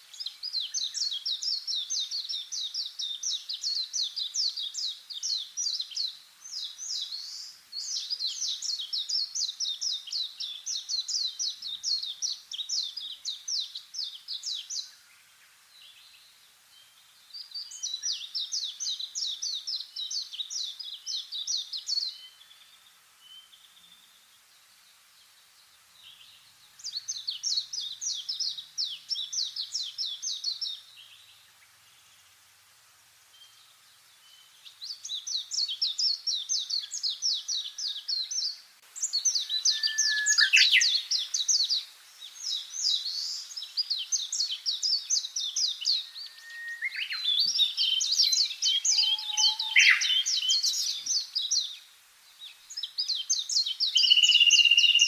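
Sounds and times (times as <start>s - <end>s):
faint bird chirps: 0.0s - 32.6s, 33.2s - 55.0s
songbird singing: 0.0s - 55.0s.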